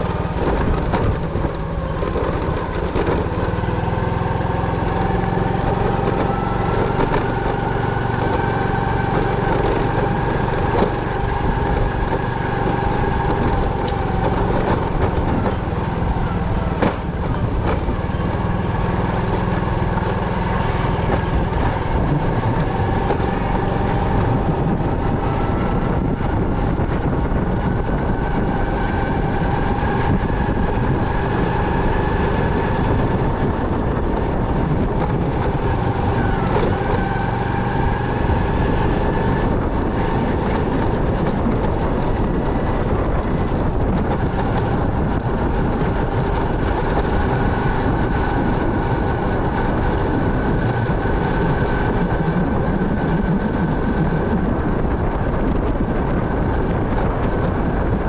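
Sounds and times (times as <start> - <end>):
motorcycle engine and road noise: 0.0 - 58.0.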